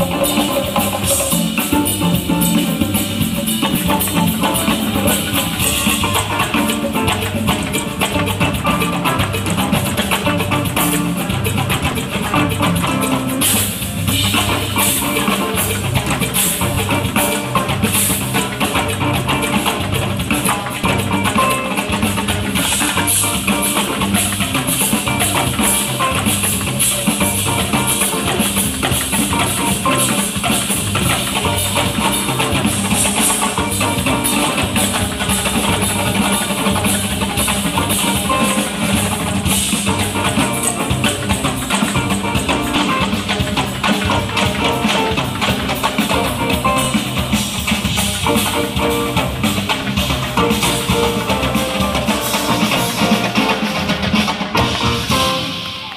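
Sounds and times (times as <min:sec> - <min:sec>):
drum kit and hand percussion: 0:00.0 - 0:55.9
live jazz band playing: 0:00.0 - 0:55.9.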